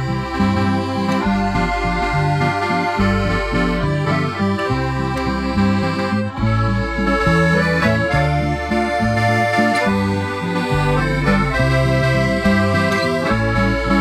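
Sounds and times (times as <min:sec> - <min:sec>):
instrumental background music: 0:00.0 - 0:14.0.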